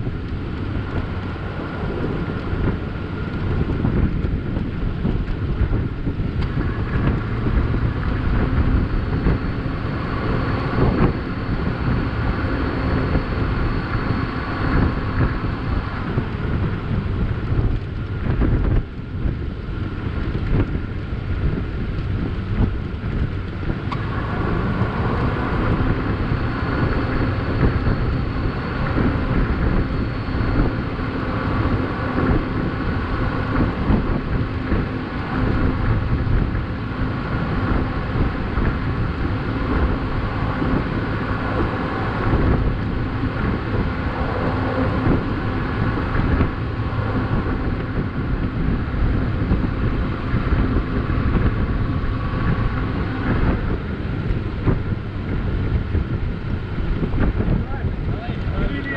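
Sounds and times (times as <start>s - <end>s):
vehicle engine running: 0.0s - 58.9s
wind buffeting microphone: 0.0s - 58.9s.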